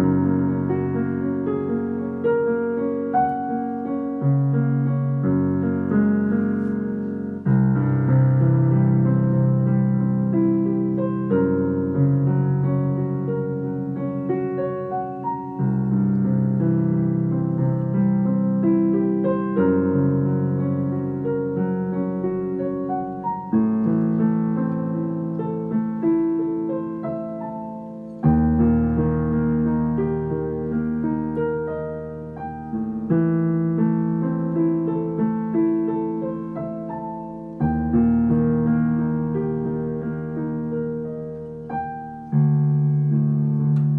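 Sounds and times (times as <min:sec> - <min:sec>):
slow piano piece: 0:00.0 - 0:43.9.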